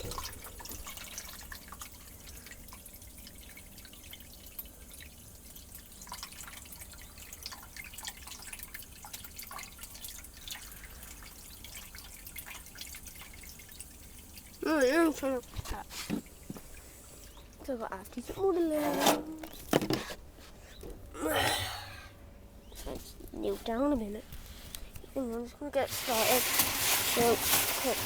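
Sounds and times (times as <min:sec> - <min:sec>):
water dripping and trickling: 0:00.0 - 0:21.2, 0:21.9 - 0:28.0.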